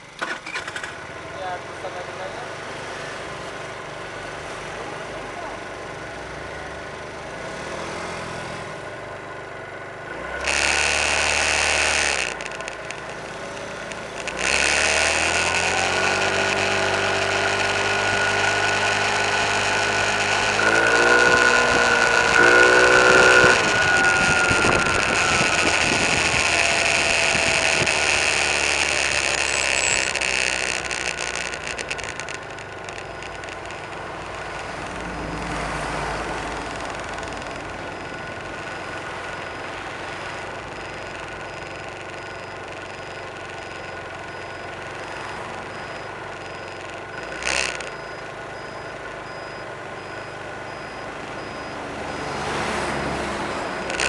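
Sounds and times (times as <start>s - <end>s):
car engine running: 0.0s - 54.0s
motor scooter engine revving: 0.0s - 54.0s.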